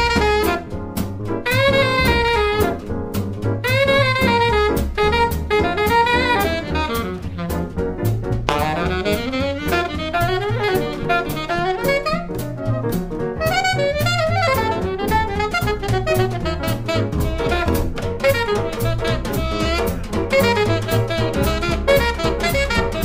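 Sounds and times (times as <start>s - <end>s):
alto saxophone jazz solo: 0.0s - 23.0s
drum kit: 0.0s - 23.0s
piano: 0.0s - 23.0s
upright bass: 0.0s - 23.0s.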